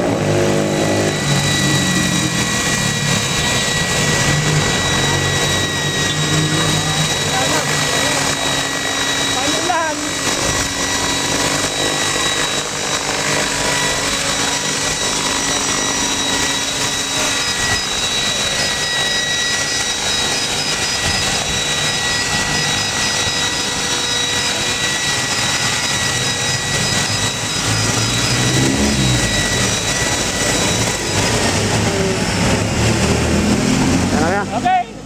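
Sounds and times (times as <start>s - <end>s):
steady rushing background: 0.0s - 34.6s
rc helicopter rotor whining: 0.0s - 35.0s.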